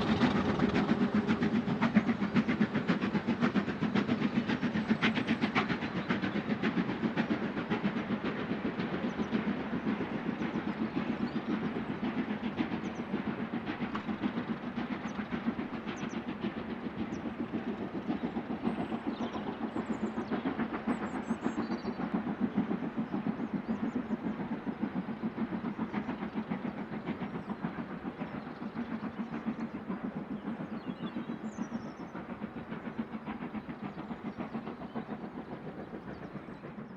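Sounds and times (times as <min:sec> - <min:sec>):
steam train rattling: 0:00.0 - 0:36.9.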